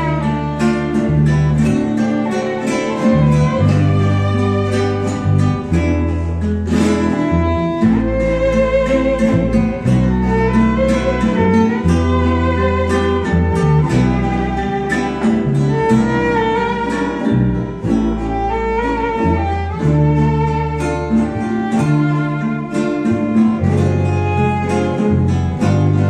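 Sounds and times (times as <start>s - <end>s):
bass notes: 0.0s - 26.0s
strummed string instruments: 0.0s - 26.0s
violin melody: 0.0s - 26.0s.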